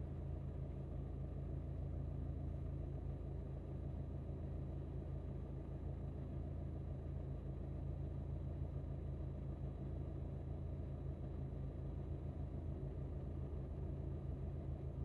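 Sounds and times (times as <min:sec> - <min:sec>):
car engine hum from inside: 0:00.0 - 0:15.0.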